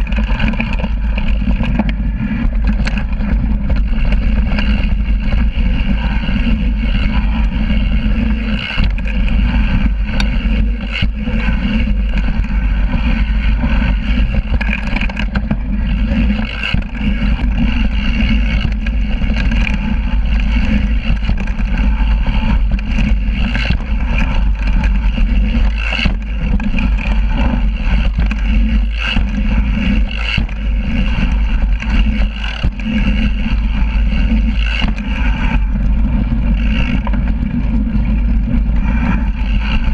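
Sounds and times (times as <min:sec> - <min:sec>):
bike rattling and knocking: 0:00.0 - 0:39.9
bike tyre rolling over dirt: 0:00.0 - 0:39.9
wind rumble: 0:00.0 - 0:39.9.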